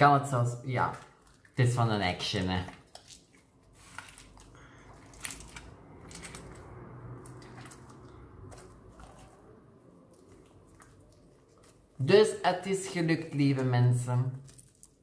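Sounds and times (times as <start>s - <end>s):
slime squishing: 0.0s - 15.0s.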